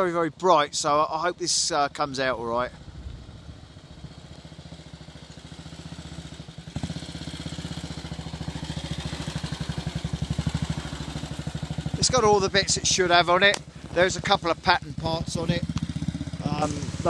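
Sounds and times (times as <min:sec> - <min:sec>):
motorcycle engine approaching: 0:00.0 - 0:17.0.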